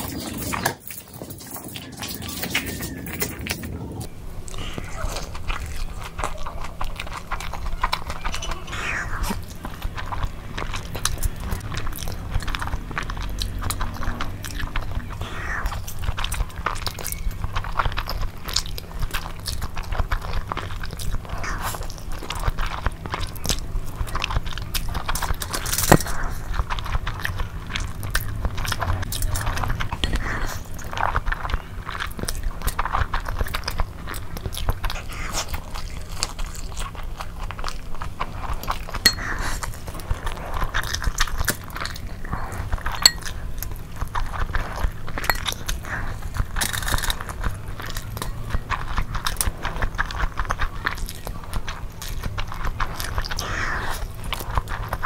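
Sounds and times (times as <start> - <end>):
chewing and lip smacks: 0.0 - 55.0.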